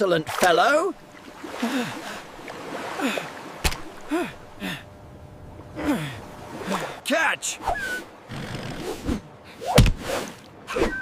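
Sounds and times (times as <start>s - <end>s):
steady water sound: 0.0s - 10.8s.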